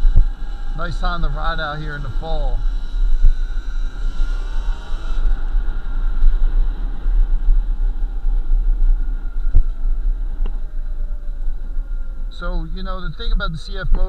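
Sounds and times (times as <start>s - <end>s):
electric motor whine: 0.0s - 14.0s
wind rumble on microphone: 0.0s - 14.0s.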